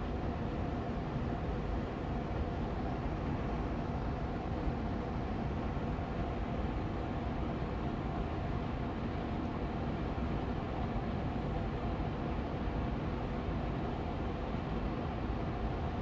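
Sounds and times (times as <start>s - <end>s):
air purifier fan running: 0.0s - 16.0s.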